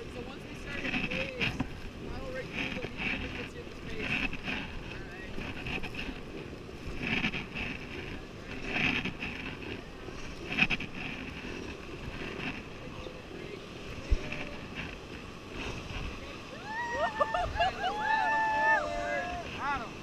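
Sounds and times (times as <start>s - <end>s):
paddle splashes: 0.0s - 20.0s
rushing river water: 0.0s - 20.0s
wind on microphone: 0.0s - 20.0s.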